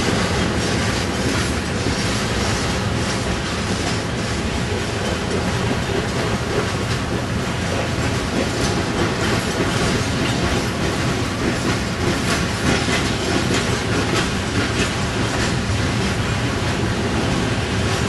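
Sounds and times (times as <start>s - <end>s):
freight train rolling: 0.0s - 18.0s
wheels clicking over rail joints: 0.0s - 18.0s.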